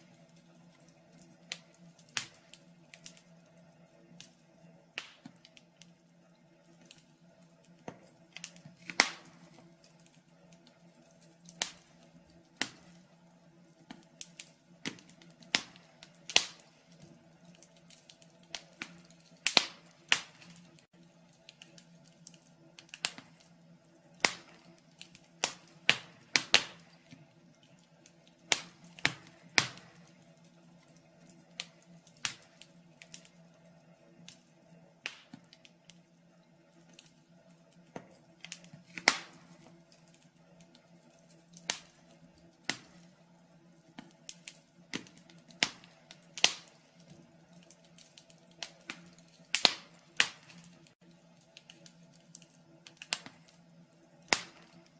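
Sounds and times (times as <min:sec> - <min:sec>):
faint steady hum: 0:00.0 - 0:54.9
wood fire crackling: 0:00.0 - 0:54.9.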